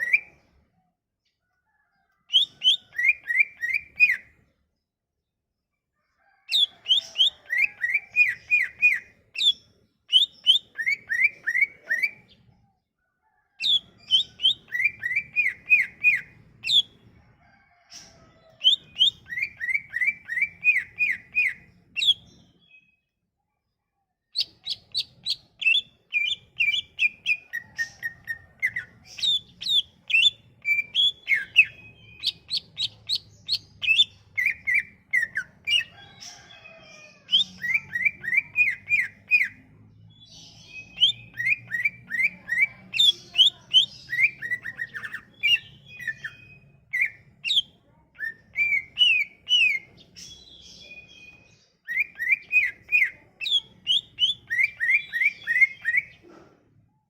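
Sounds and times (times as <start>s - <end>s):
bird singing chirps and whistles: 0.0s - 0.3s, 2.3s - 4.3s, 6.6s - 12.3s, 13.6s - 17.0s, 18.6s - 23.0s, 24.4s - 35.9s, 37.3s - 56.2s.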